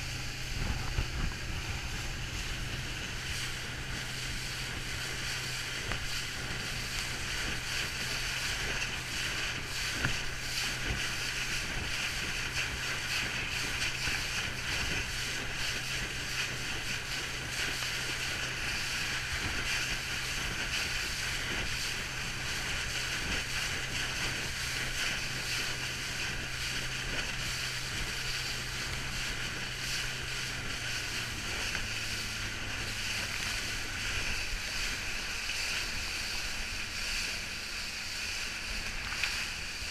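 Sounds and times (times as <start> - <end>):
motorboat engine running: 0.0 - 39.9
wind and water rushing: 0.0 - 39.9.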